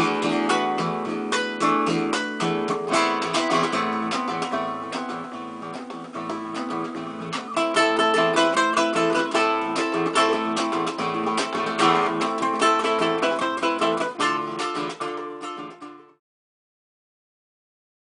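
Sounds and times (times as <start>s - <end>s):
plucked and strummed string music: 0.0s - 16.2s.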